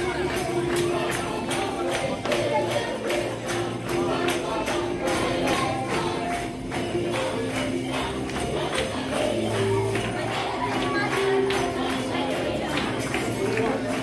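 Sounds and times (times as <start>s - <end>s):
upbeat music with tambourine: 0.0s - 14.0s.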